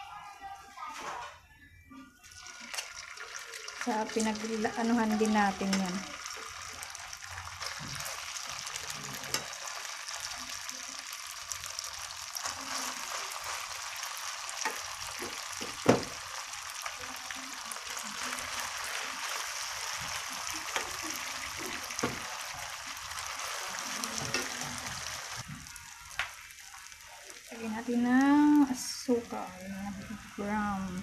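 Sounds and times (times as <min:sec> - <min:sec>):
rice sizzling in a wok: 0:02.2 - 0:31.0.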